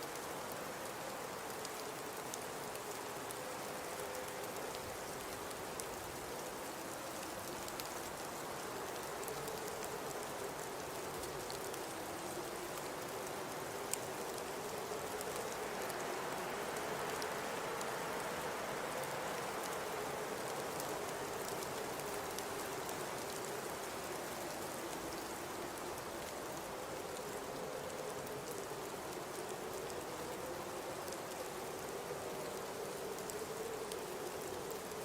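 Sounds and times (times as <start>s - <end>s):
low wind howl: 0.1s - 35.0s.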